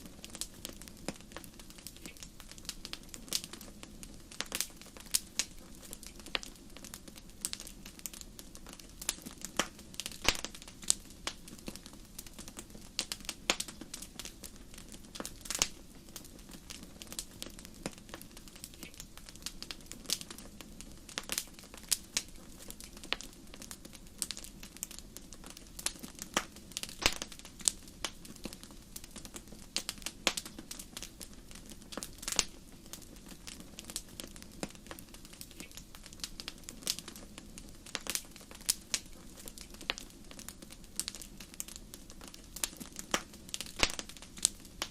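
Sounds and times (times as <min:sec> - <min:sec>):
fire pops and snaps: 0:00.0 - 0:44.9
hiss of burning: 0:00.0 - 0:44.9.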